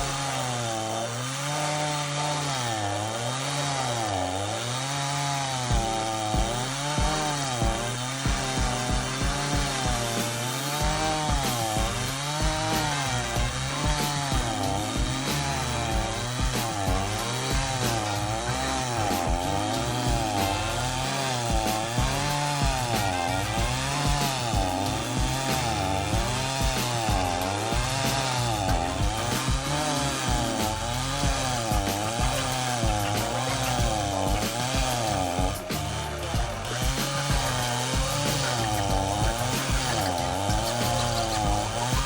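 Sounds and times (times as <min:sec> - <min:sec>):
chainsaw grinding tree stump: 0:00.0 - 0:42.0.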